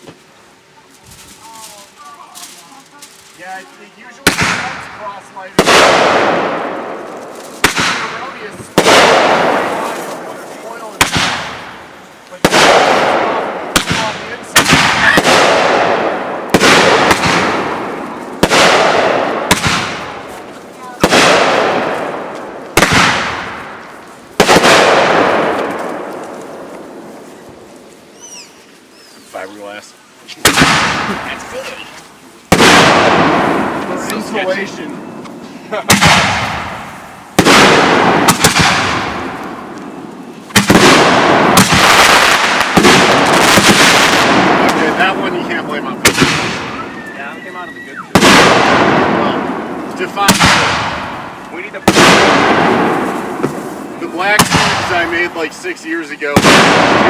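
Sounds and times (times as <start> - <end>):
crackling rolling tail: 0.0 - 57.0
firework shells bursting: 4.1 - 29.2, 30.4 - 47.2, 48.1 - 57.0.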